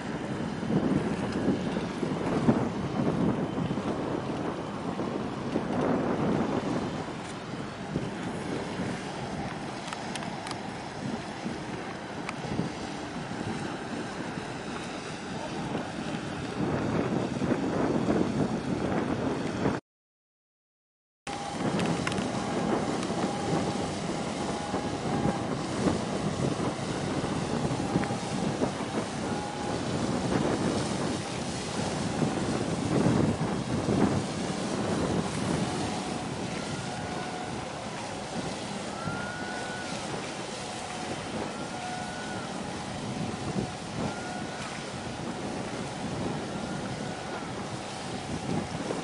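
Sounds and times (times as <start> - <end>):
low ship noise: 0.0 - 19.8, 21.3 - 49.0
rushing water: 0.0 - 19.8, 21.3 - 49.0
wind buffeting microphone: 0.0 - 19.8, 21.3 - 49.0.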